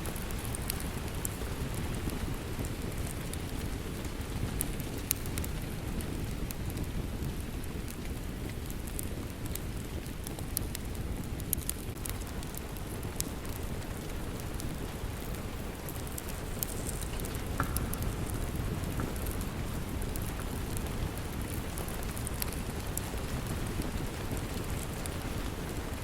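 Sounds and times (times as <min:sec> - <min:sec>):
steady rain: 0:00.0 - 0:26.0
wood fire crackling: 0:00.0 - 0:26.0.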